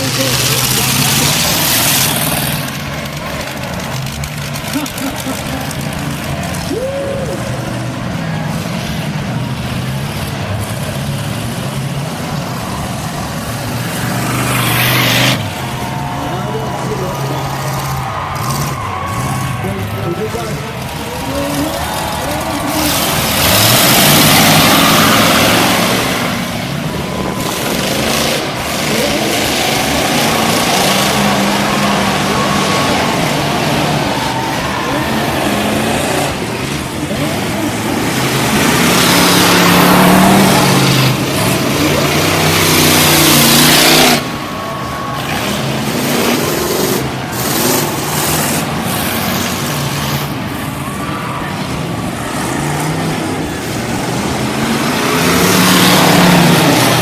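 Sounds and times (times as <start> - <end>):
race car engines passing: 0.0 - 57.0.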